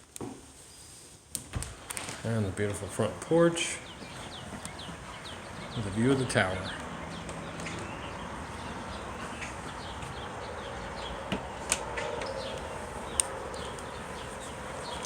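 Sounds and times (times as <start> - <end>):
small birds chirping: 1.7 - 15.0.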